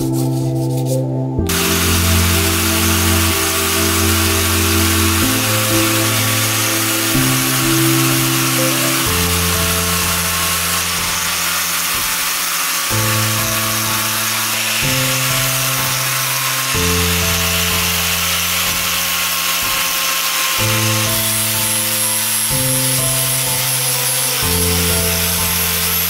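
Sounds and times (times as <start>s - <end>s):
background music low chords: 0.0s - 26.0s
power tool running hiss: 1.5s - 26.0s.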